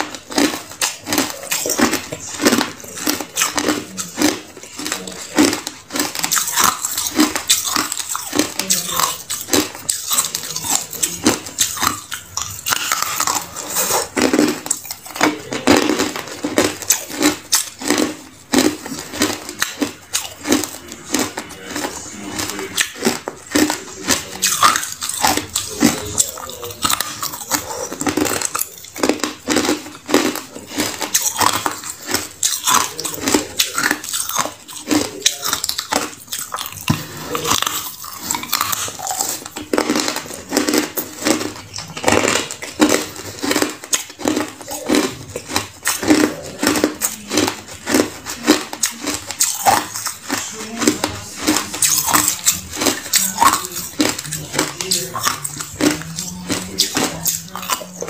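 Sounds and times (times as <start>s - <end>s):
person crunching ice: 0.0s - 58.0s.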